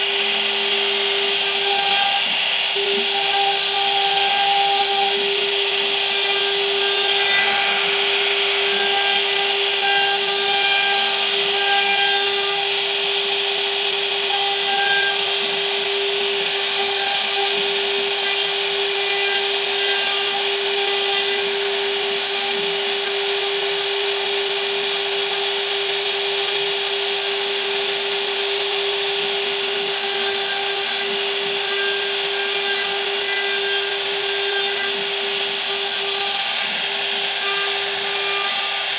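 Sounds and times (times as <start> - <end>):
hiss of bit cutting wood: 0.0 - 38.9
router spindle whining: 0.0 - 38.9.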